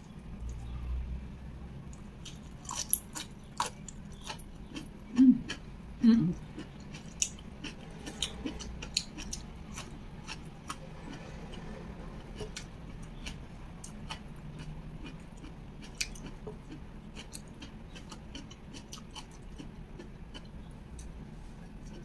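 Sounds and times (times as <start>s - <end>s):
low steady hum: 0.0s - 22.0s
person chewing: 2.2s - 5.7s, 6.4s - 22.0s.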